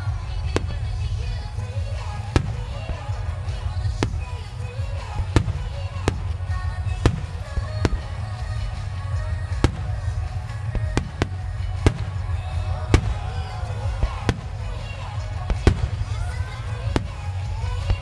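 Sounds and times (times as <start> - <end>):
firework shells bursting: 0.0 - 18.0.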